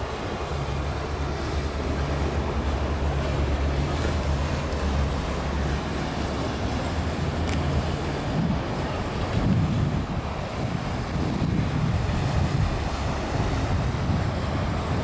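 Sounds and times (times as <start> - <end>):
city background noise: 0.0 - 15.0
low engine drone: 0.0 - 15.0
wind buffeting microphone: 0.0 - 15.0.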